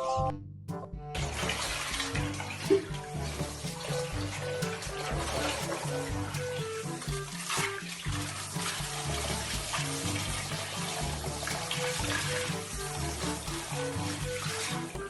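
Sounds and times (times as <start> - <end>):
background music with bass line: 0.0 - 15.0.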